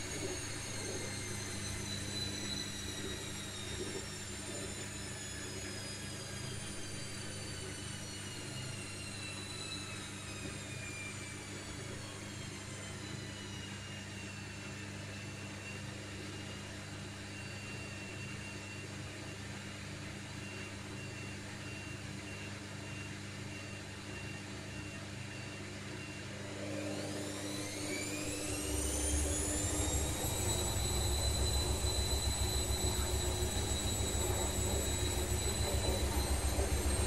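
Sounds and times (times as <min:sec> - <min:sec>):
washing machine motor hum and whine: 0:00.0 - 0:37.0.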